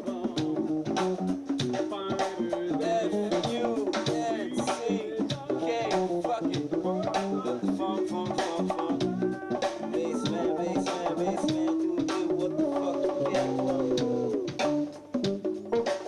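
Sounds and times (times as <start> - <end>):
drum kit beat: 0.0 - 16.0
live band playing: 0.0 - 16.0.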